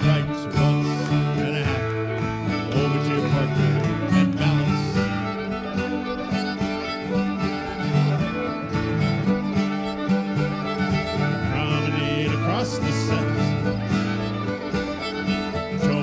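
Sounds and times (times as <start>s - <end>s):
acoustic guitar: 0.0s - 16.0s
fiddle playing a reel: 0.0s - 16.0s.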